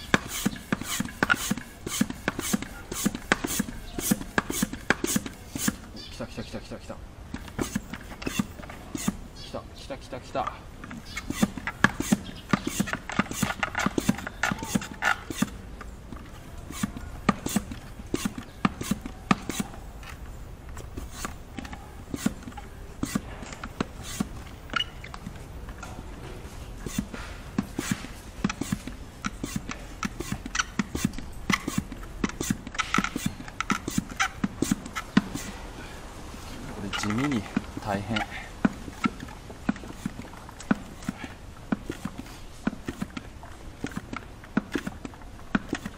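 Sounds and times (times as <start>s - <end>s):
hand pump clicking and knocking: 0.0s - 6.4s, 7.2s - 9.5s, 10.3s - 35.6s, 36.8s - 45.9s.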